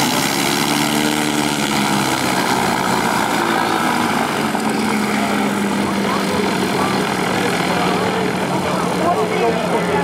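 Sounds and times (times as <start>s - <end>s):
propeller plane engines droning: 0.0s - 10.0s.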